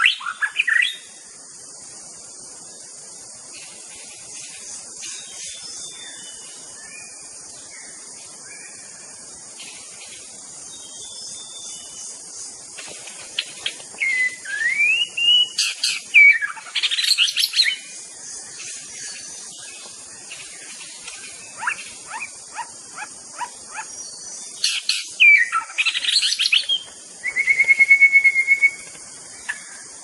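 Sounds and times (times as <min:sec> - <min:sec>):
bird singing: 0:00.0 - 0:30.0
steady high hiss: 0:00.0 - 0:30.0.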